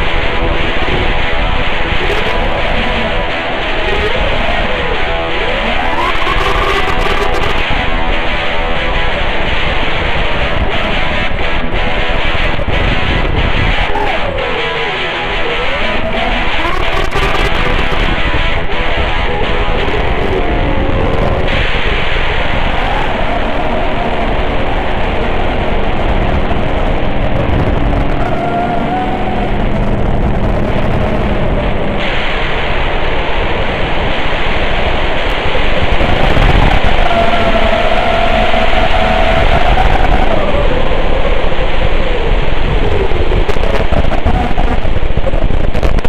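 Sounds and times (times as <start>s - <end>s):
quadcopter motors rushing: 0.0s - 46.0s
wind on microphone: 0.0s - 46.0s.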